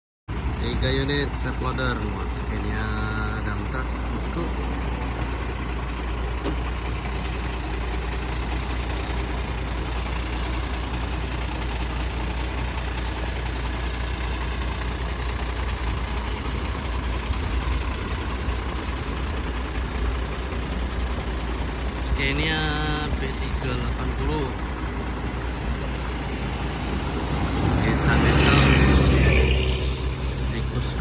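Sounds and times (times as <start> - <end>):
diesel truck engines rumbling: 0.3 - 31.0
road noise: 0.3 - 31.0.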